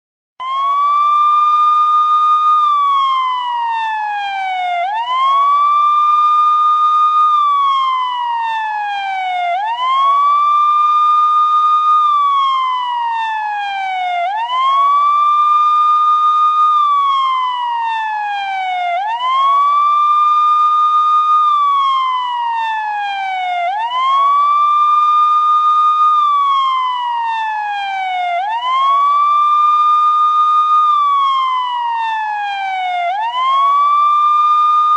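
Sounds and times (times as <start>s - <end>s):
police siren wailing: 0.4s - 34.9s.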